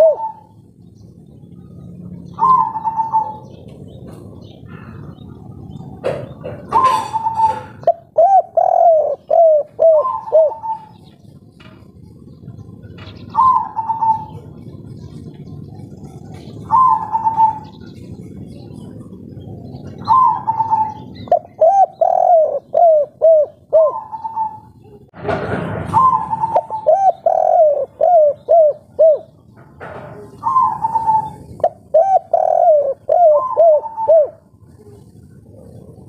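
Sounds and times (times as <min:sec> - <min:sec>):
dove cooing: 0:00.0 - 0:00.7, 0:01.3 - 0:25.1, 0:25.9 - 0:36.0.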